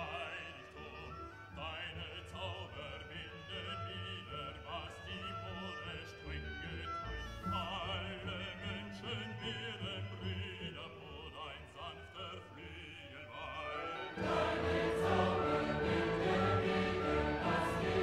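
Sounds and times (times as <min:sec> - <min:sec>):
operatic singing with accompaniment: 0:00.0 - 0:18.0.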